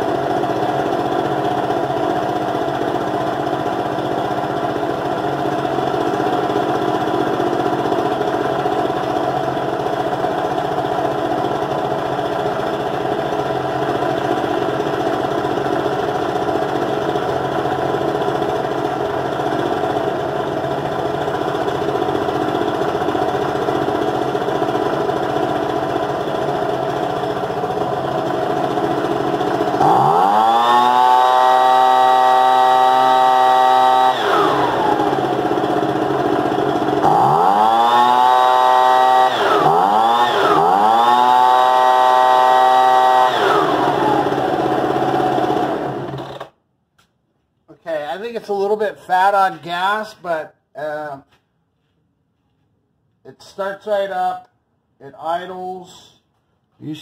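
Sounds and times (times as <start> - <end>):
leaf blower engine revving: 0.0 - 46.6.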